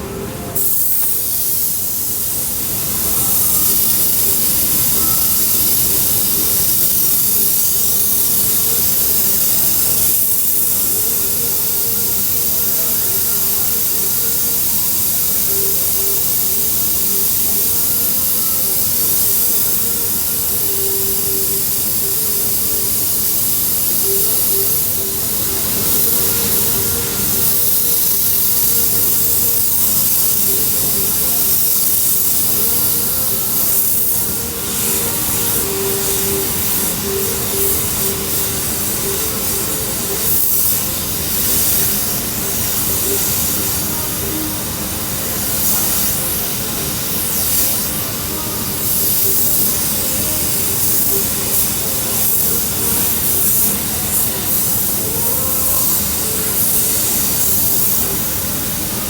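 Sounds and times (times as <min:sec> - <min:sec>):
hot air gun hissing: 0:00.0 - 0:59.0.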